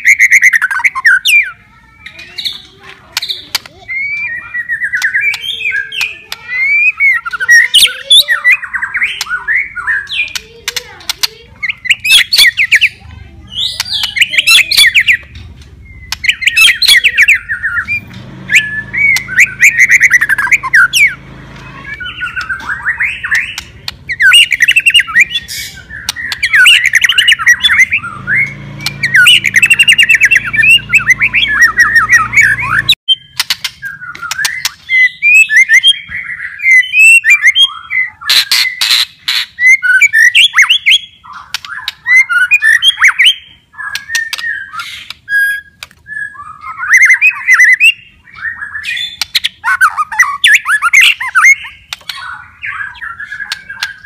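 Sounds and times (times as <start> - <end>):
bird singing whistled phrases: 0.0 - 10.4, 11.6 - 54.0
bird harsh chattering: 0.0 - 54.0.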